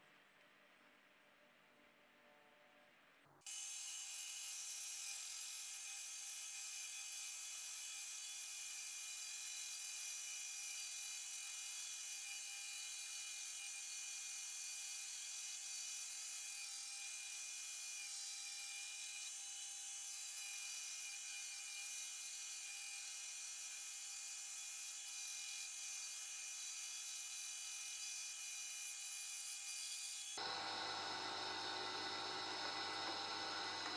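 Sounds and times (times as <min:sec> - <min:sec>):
band saw cutting wood: 0:03.5 - 0:33.9.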